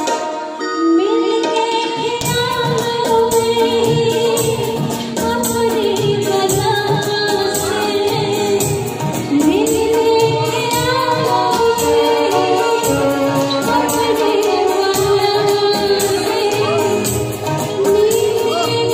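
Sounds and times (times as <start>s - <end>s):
rhythmic percussion: 0.0s - 18.9s
woman singing into a microphone: 0.0s - 18.9s.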